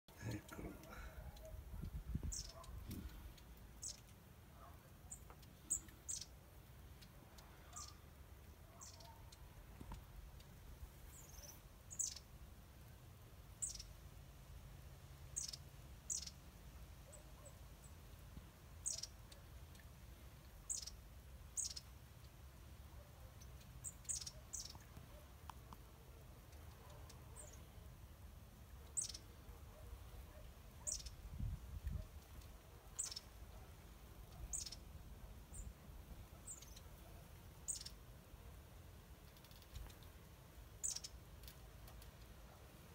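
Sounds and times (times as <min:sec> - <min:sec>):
small birds chirping: 0:00.1 - 0:14.2, 0:15.2 - 0:42.9.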